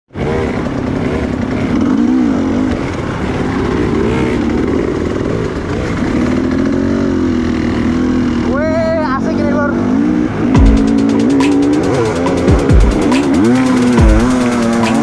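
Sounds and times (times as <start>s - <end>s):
motorcycle engine revving: 0.1s - 15.0s.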